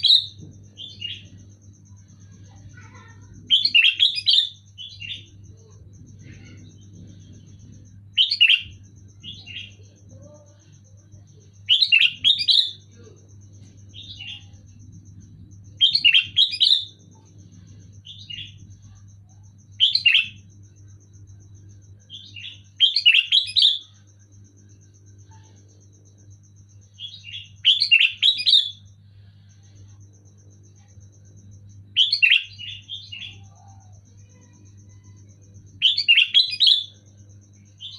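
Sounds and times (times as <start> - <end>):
bulbul chirping song: 0.0 - 37.9.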